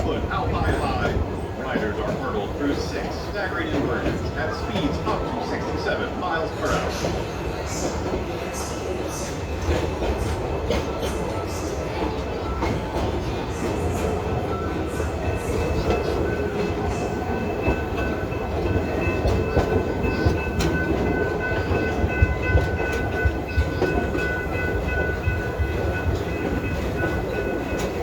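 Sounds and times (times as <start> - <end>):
train wheels rumbling: 0.0 - 28.0.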